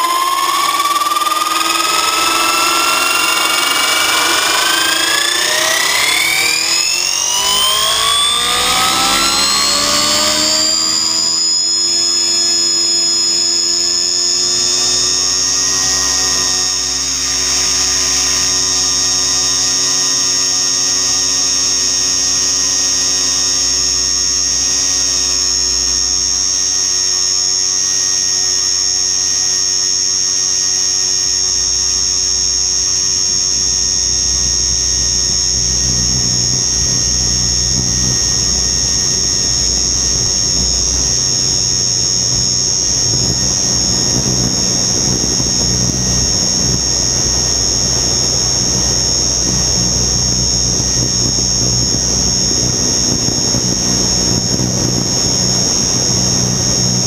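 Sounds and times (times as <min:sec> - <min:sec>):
model helicopter rotor whining: 0:00.0 - 0:57.0.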